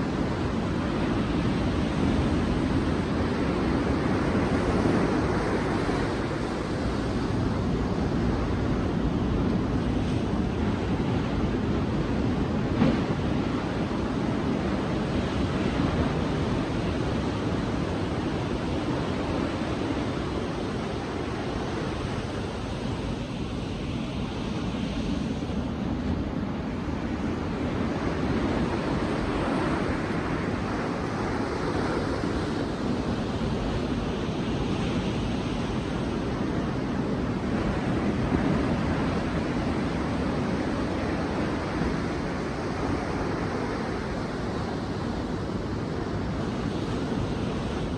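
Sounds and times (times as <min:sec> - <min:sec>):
sea waves washing onto beach: 0:00.0 - 0:47.9.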